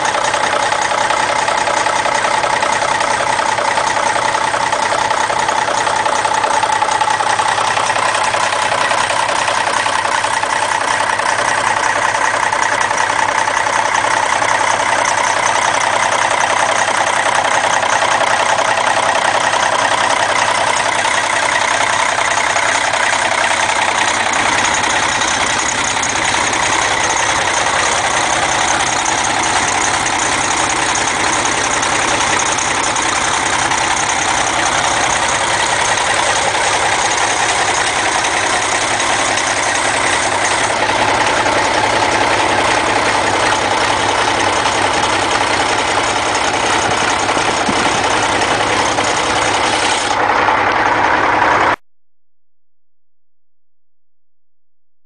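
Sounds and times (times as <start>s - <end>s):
tractor diesel engine idling: 0.0s - 51.8s.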